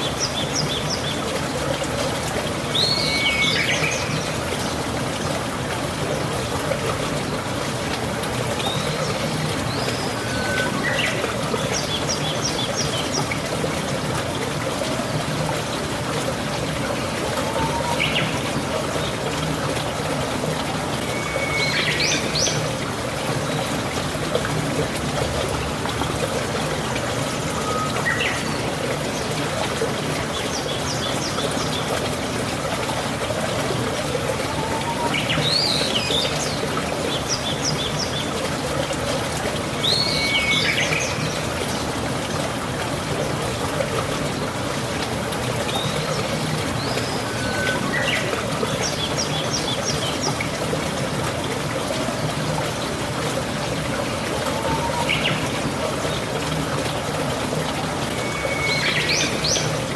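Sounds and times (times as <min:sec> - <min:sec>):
steady rain: 0:00.0 - 0:59.9
water trickling and pouring: 0:00.0 - 0:59.9.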